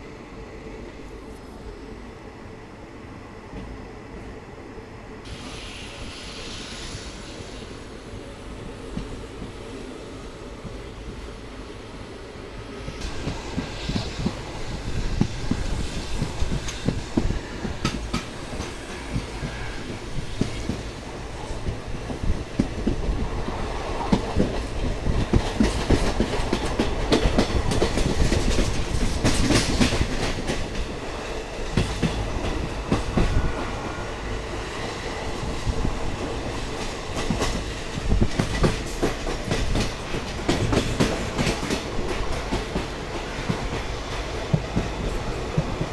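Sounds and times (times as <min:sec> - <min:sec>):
train rumble: 0:00.0 - 0:45.9.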